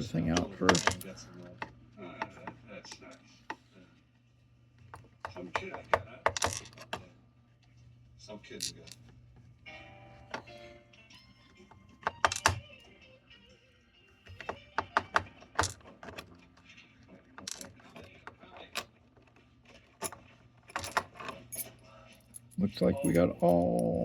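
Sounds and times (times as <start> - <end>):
faint television music: 0.0 - 24.0
television voices: 0.0 - 24.0.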